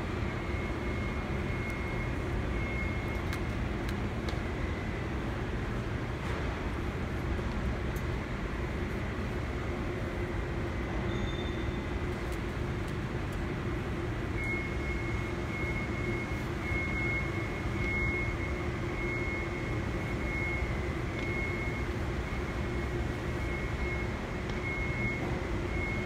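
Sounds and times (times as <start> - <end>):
ventilation fans humming: 0.0 - 26.0.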